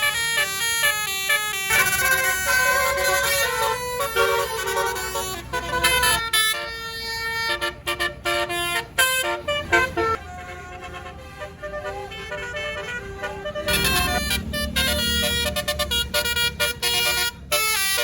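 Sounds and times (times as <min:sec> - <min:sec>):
bus horn playing stepped notes: 0:00.0 - 0:18.0.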